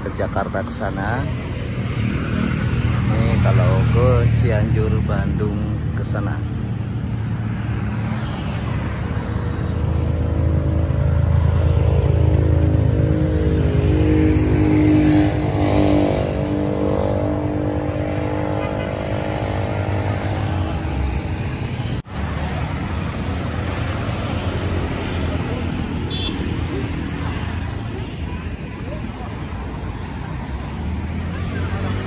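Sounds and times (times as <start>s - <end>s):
cars driving by: 0.0s - 32.0s
vehicle engine passing: 0.0s - 32.0s.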